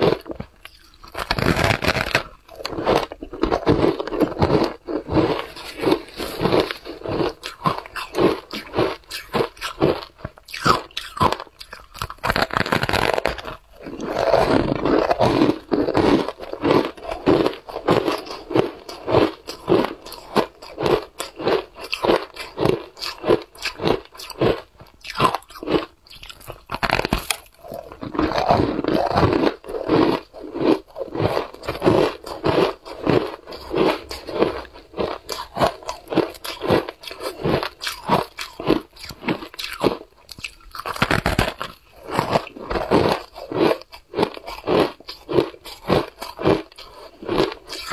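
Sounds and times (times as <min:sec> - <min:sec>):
crunching shaved ice: 0:00.0 - 0:47.9.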